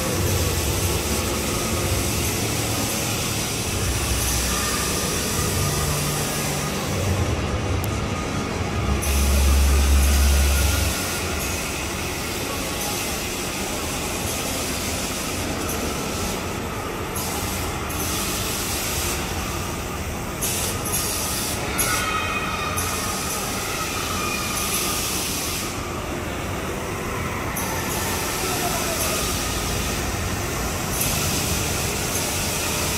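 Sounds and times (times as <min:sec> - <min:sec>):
swing ride mechanical running: 0:00.0 - 0:32.9.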